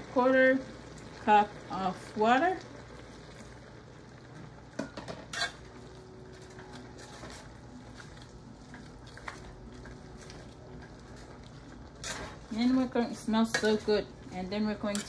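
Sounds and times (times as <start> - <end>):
food simmering: 0.0 - 14.8.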